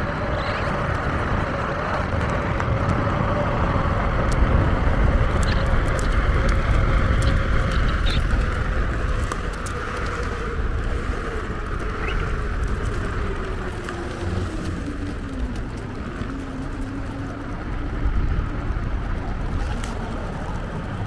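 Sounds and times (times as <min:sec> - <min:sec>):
electric motor whine: 0:00.0 - 0:21.0
wheels rumbling over pavement: 0:00.0 - 0:21.0.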